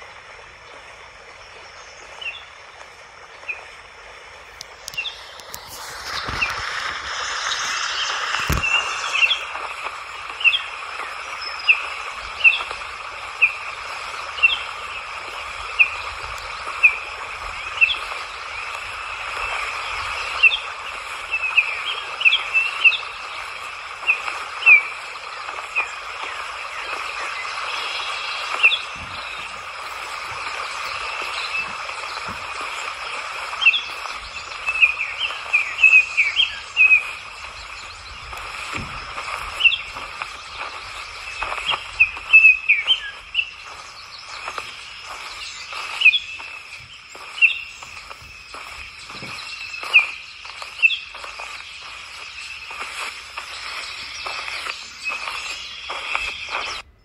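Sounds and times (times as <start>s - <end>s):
steady outdoor hiss: 0.0s - 57.0s
bird chirping: 0.7s - 57.0s.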